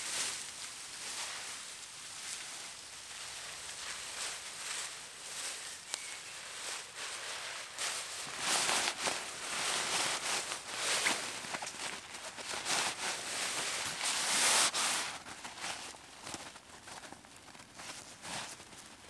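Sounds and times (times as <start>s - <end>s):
netting rustling: 0.0s - 19.0s.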